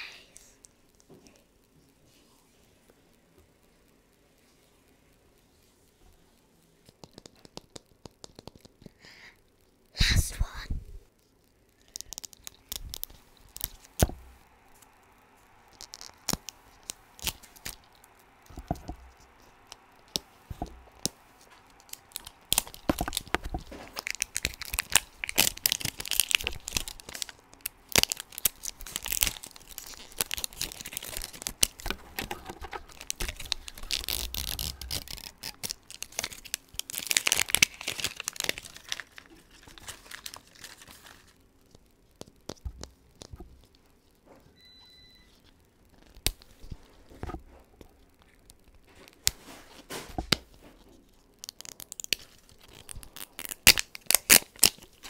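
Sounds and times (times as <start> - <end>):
plastic wrapper crinkling and tearing: 6.8 - 9.8, 11.2 - 44.2, 45.3 - 55.0.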